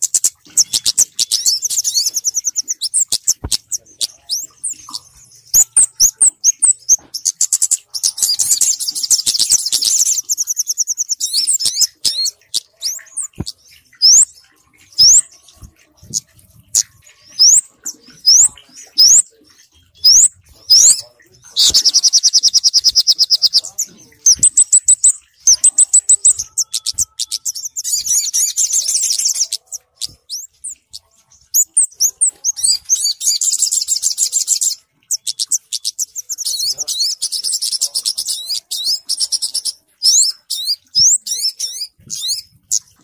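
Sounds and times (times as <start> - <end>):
small birds twittering trills: 0.0 - 43.0.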